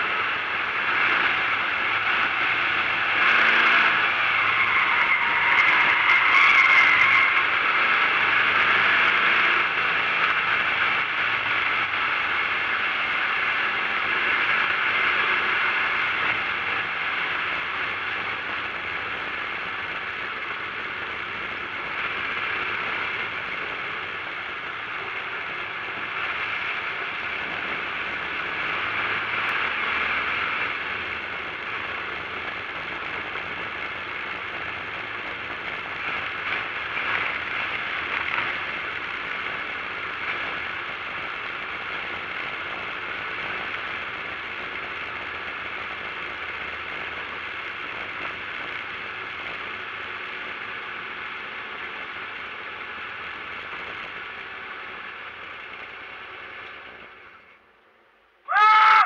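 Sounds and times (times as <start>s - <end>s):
rough car engine cabin noise: 0.0s - 50.4s.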